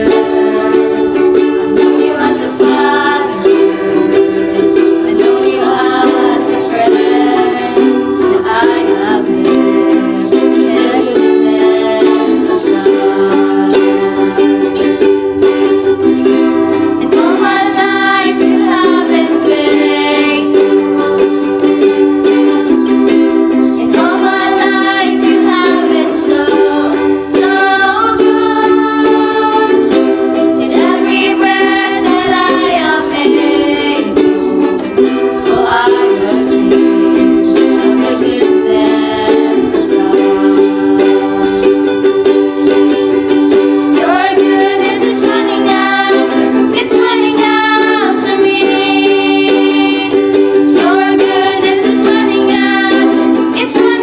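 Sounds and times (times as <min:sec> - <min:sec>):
ukulele strumming chords: 0:00.0 - 0:54.0
person singing worship song: 0:01.8 - 0:14.8, 0:17.0 - 0:21.1, 0:23.8 - 0:34.6, 0:35.4 - 0:41.9, 0:44.0 - 0:54.0.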